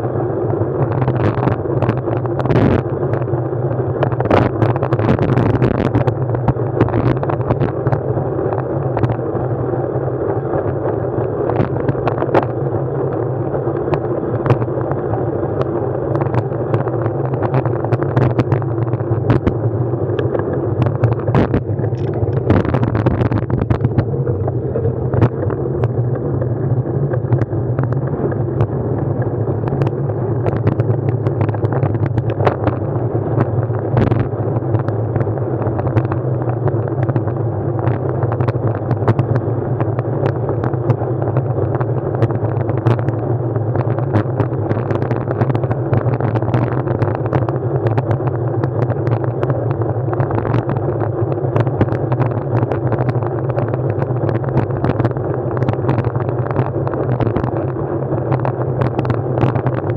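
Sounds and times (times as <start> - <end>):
vehicle ride drone: 0.0 - 59.9
sharp clicks and rattles: 0.8 - 9.2, 10.5 - 59.9.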